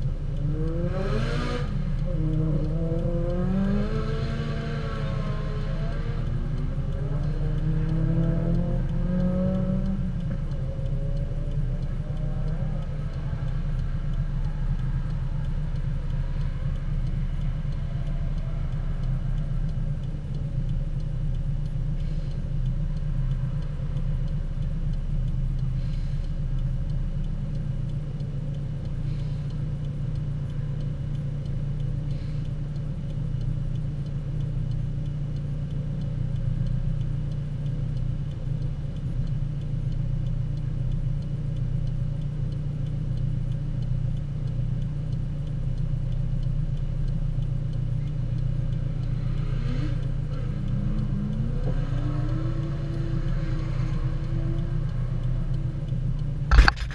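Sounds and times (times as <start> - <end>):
car engine idling: 0.0 - 1.0, 1.6 - 56.9.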